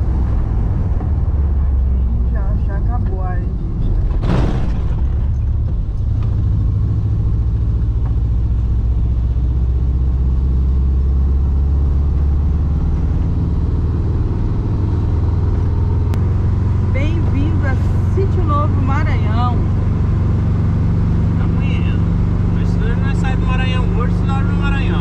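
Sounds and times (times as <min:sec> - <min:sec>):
engine drone: 0:00.0 - 0:25.0
road rumble: 0:00.0 - 0:25.0.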